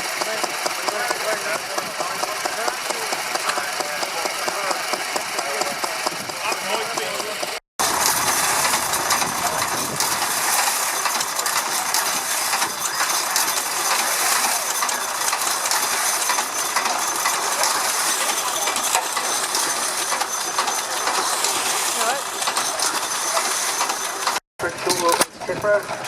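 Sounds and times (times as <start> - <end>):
stationary engine clattering: 0.0 - 26.0.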